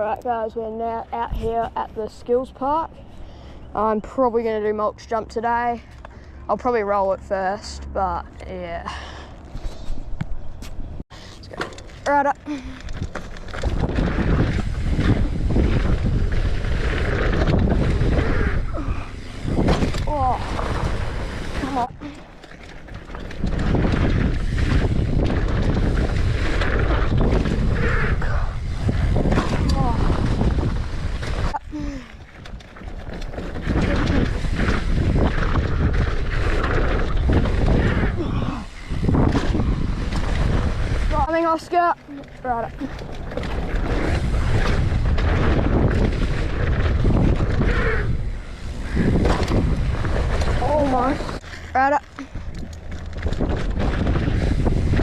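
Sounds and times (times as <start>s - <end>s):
bike ticks and rattles: 0.0s - 55.0s
wind buffeting microphone: 0.0s - 55.0s
bike tyres rumbling on dirt trail: 10.8s - 55.0s.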